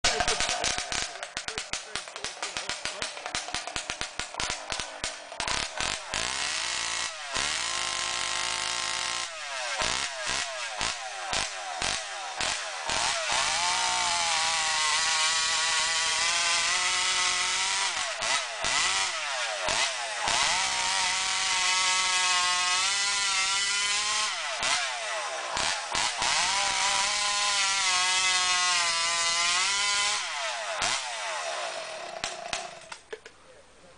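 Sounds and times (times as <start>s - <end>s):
chainsaw engine revving: 0.0s - 33.3s.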